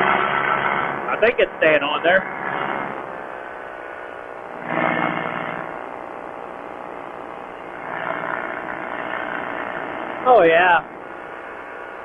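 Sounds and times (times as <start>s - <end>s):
ultralight airplane engine droning: 0.0s - 12.0s.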